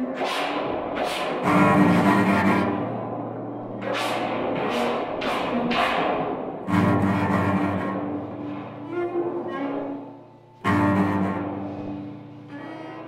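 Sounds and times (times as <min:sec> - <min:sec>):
cello bowed low notes: 0:01.2 - 0:13.0.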